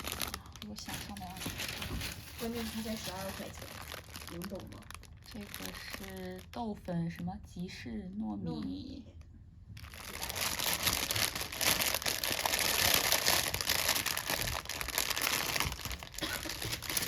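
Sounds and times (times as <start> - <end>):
packaging crinkling and rustling: 0.0 - 7.2, 9.8 - 17.0.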